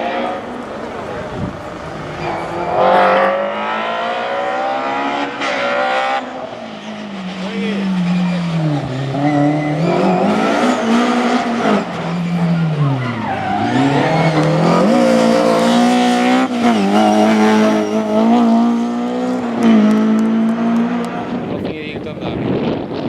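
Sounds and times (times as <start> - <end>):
rally car engine revving: 0.0 - 21.7.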